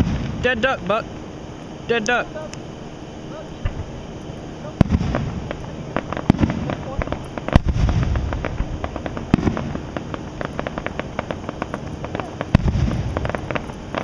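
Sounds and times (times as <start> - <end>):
fireworks crackling pops: 0.0 - 1.0, 3.3 - 14.0
fireworks booming: 0.0 - 14.0
low rumble: 0.0 - 14.0.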